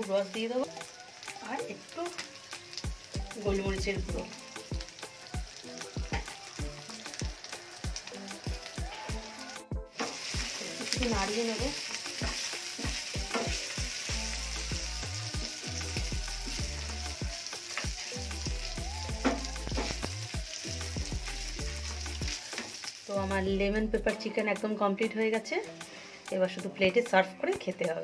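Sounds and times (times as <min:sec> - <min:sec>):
chicken sizzling in pan: 0:00.0 - 0:23.4, 0:25.2 - 0:26.8.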